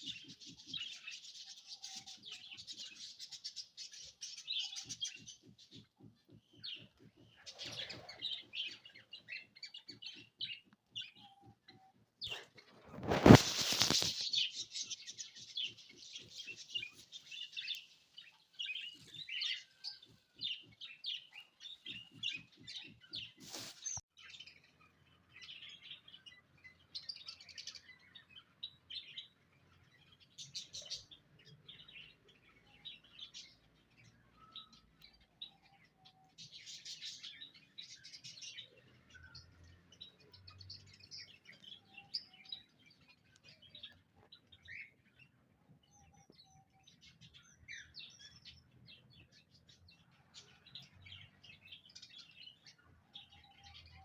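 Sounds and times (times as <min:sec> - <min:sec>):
pet birds chirping: 0:00.0 - 0:54.0.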